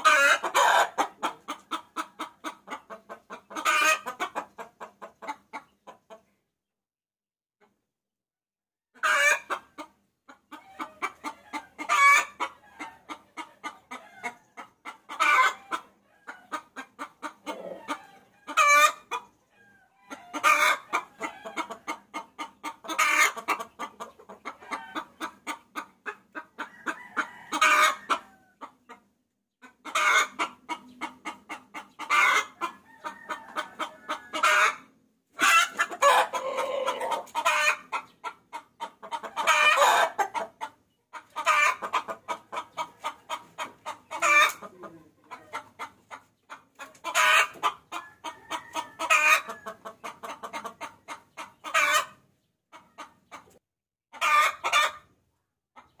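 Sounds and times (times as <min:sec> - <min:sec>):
hen cackling: 0:00.0 - 0:06.0, 0:09.0 - 0:29.0, 0:29.6 - 0:53.5, 0:54.1 - 0:55.1.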